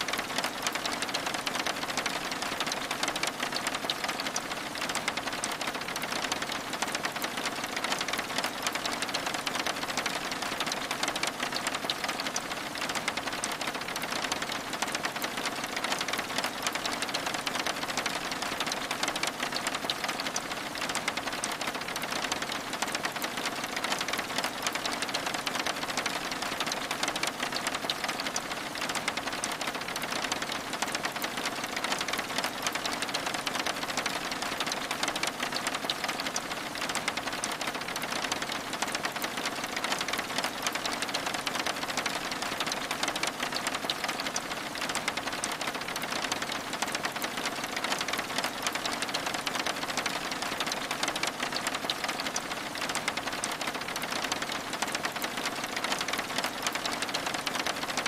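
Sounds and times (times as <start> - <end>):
rain pattering on window glass: 0.0 - 58.0.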